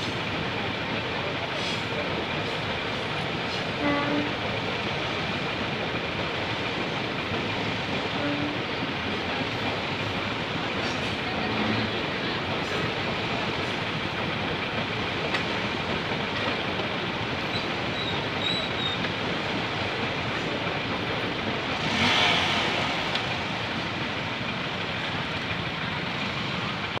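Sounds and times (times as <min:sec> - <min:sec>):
train wheels rattling on rail: 0:00.0 - 0:27.0.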